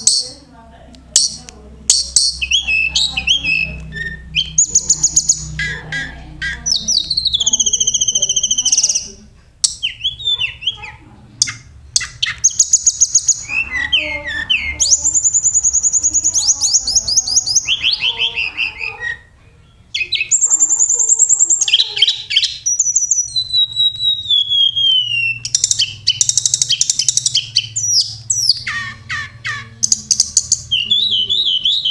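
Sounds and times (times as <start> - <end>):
songbird trilling and chirping: 0.0 - 0.5, 1.1 - 31.9.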